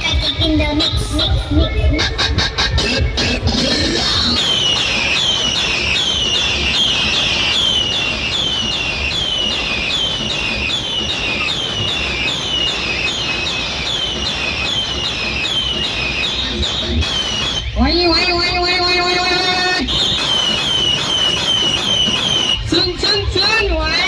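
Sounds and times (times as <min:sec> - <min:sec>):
electronic siren whoop: 0:01.1 - 0:24.0.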